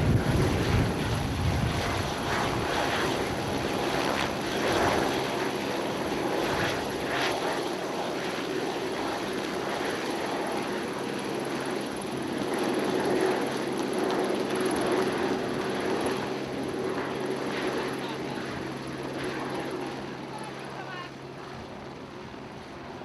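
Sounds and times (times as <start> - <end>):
helicopter rotor drone: 0.0 - 23.0.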